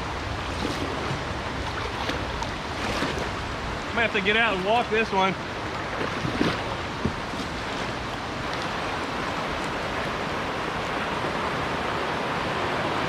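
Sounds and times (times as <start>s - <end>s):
river rapid rushing water: 0.0s - 13.0s.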